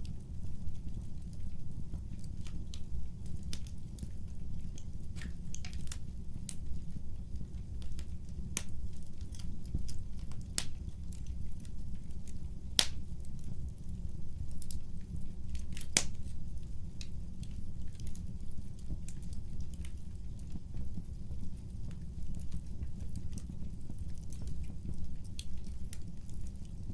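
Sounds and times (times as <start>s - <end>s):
low rumble of flames: 0.0s - 26.9s
wood fire crackling and popping: 0.0s - 26.9s.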